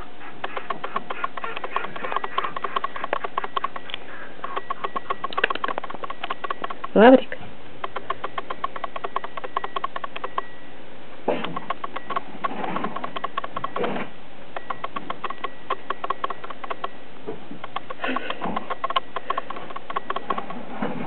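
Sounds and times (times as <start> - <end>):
puppies snuffling and sniffing: 0.0 - 10.6, 11.2 - 21.0
rapid even ticking: 0.0 - 10.6, 11.3 - 17.0, 17.6 - 20.7.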